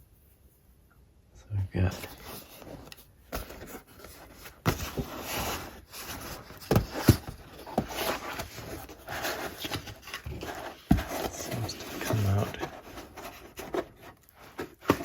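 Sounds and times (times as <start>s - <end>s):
cardboard rustling and scraping: 1.9s - 15.0s.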